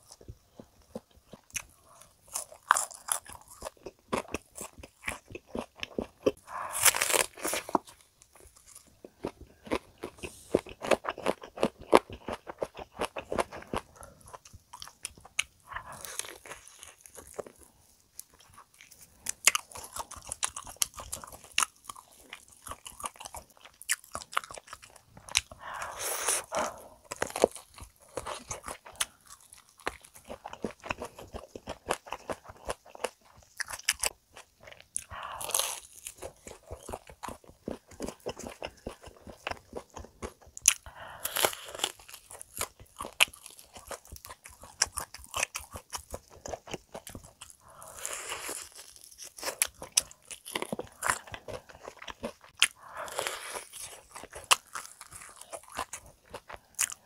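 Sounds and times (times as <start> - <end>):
chewing: 0.0 - 57.0
crunching crispy chicken: 0.6 - 57.0.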